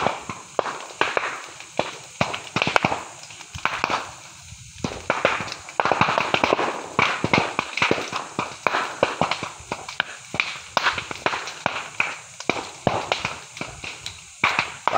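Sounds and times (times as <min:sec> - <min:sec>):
burning bamboo crackling and popping: 0:00.0 - 0:14.9.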